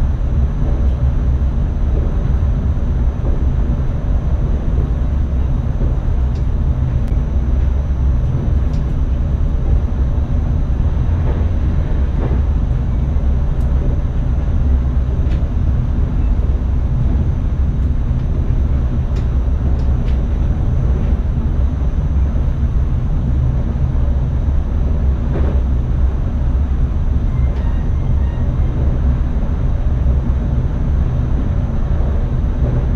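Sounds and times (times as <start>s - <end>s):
train cab rumble: 0.0s - 32.9s.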